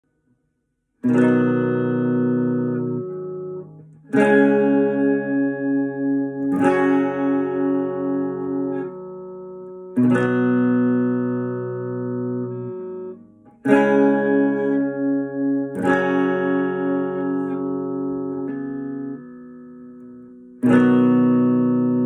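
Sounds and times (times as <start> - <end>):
electric guitar chords ringing: 1.0 - 22.0.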